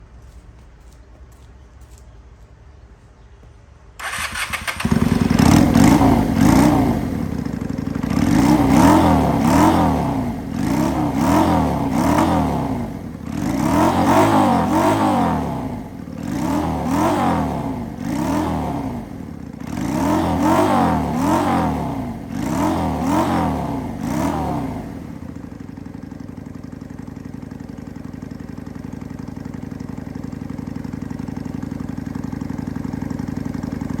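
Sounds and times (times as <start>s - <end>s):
motorcycle engine revving: 4.0s - 34.0s.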